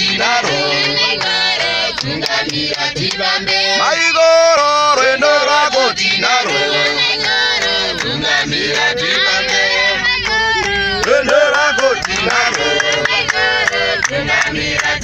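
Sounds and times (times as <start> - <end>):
men and women singing in unison: 0.0 - 15.0.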